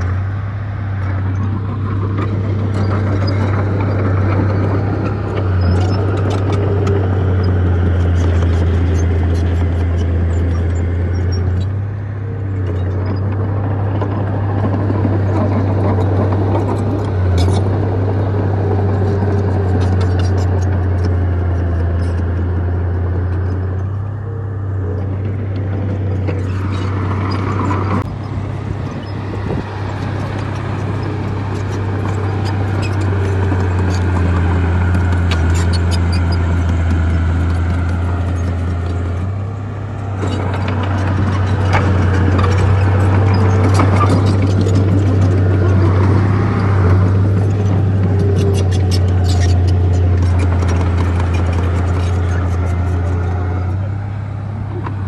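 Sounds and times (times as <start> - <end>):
bulldozer diesel engine running: 0.0 - 55.0
tracks and stones clicking and scraping: 0.9 - 55.0.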